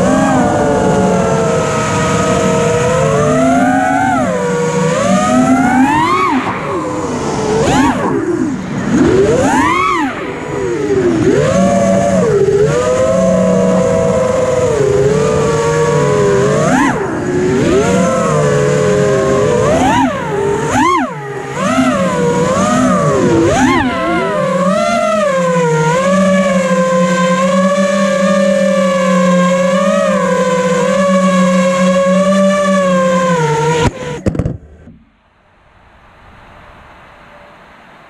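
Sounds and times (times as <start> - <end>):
drone propellers whining: 0.0 - 38.0.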